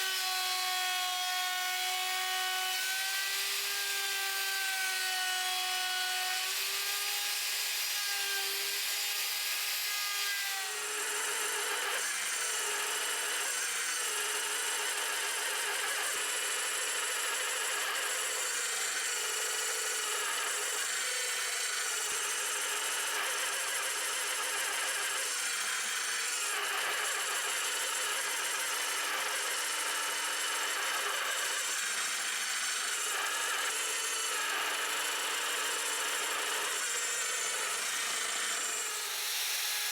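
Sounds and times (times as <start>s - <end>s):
power tool working wood: 0.0s - 39.9s.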